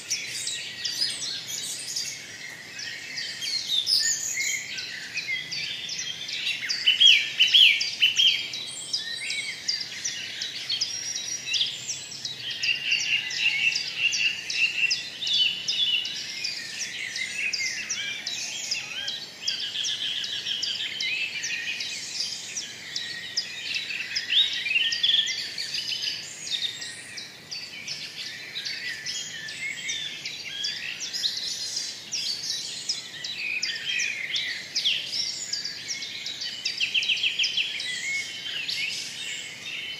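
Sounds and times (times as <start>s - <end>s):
small birds chirping in chorus: 0.0s - 39.9s.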